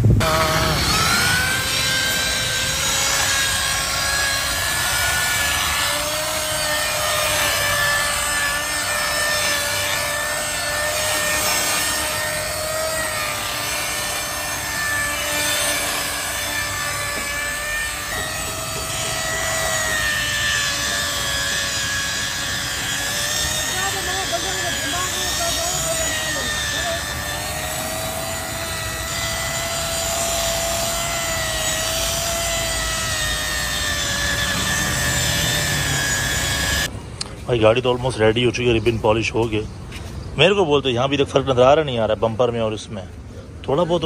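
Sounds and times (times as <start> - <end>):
angle grinder motor whine: 0.0 - 36.9.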